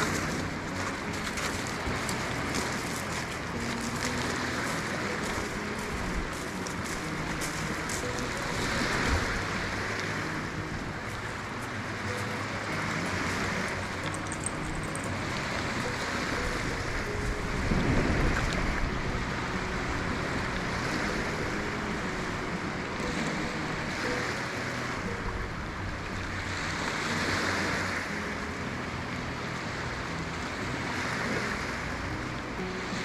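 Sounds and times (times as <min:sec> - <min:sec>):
waves washing onto shore: 0:00.0 - 0:33.0.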